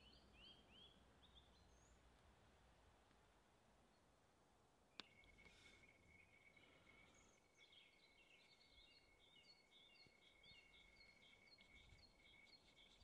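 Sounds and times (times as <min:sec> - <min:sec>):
faint songbird chirps: 0:00.0 - 0:02.2, 0:03.8 - 0:04.2, 0:04.8 - 0:13.0.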